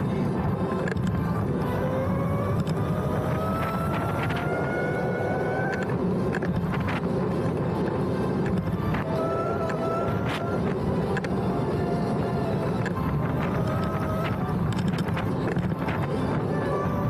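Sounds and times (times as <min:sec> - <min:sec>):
electric motor whine: 0:00.0 - 0:17.0
wind and road rumble: 0:00.0 - 0:17.0.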